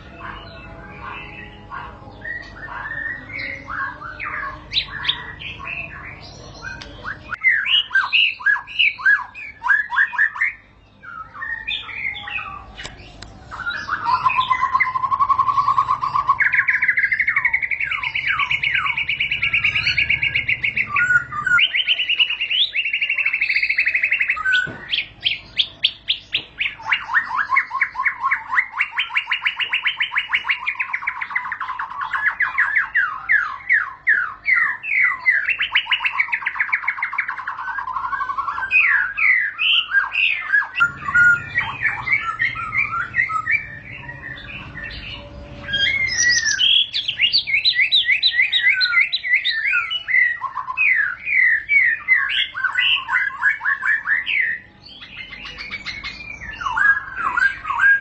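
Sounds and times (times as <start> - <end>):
bird singing rolling trills: 0.0 - 58.0.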